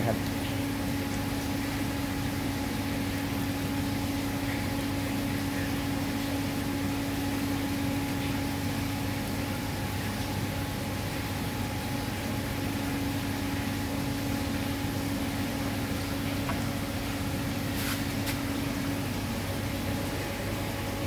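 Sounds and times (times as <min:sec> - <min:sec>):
mechanical hum: 0:00.0 - 0:21.0.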